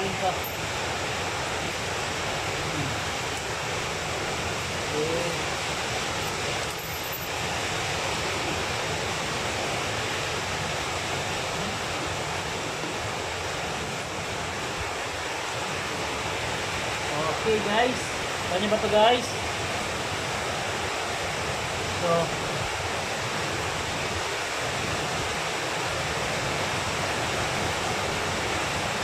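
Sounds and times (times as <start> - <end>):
electric fan airflow: 0.0 - 29.0.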